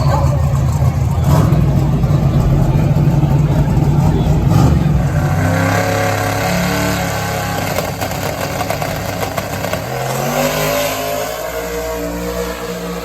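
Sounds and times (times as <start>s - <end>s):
turbocharged engine accelerating: 0.0s - 13.0s.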